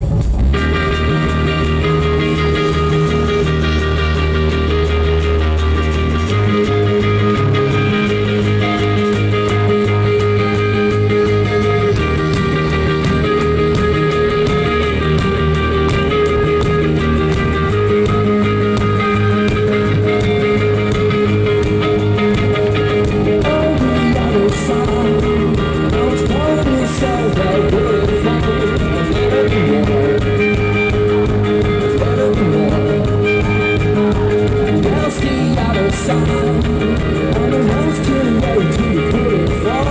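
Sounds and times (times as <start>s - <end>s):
bass line: 0.0s - 39.9s
electric guitars sustained chords: 0.0s - 39.9s
live rock band playing: 0.0s - 39.9s.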